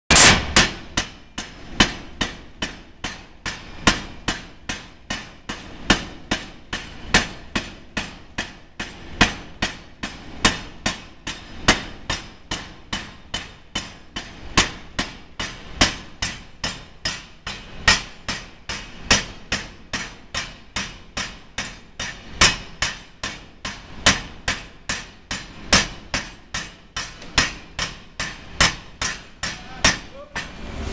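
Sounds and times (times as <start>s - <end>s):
power hammer striking hot steel: 0.1s - 30.9s.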